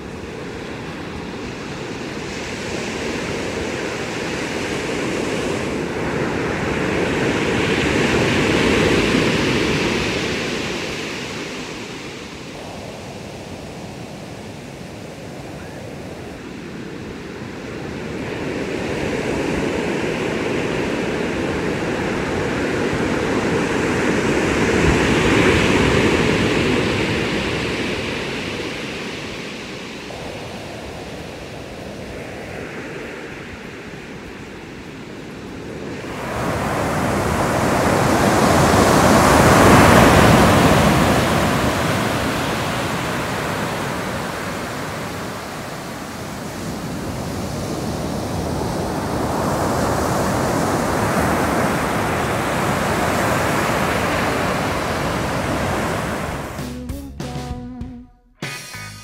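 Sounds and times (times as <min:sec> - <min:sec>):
ocean surf breaking: 0:00.0 - 0:56.7.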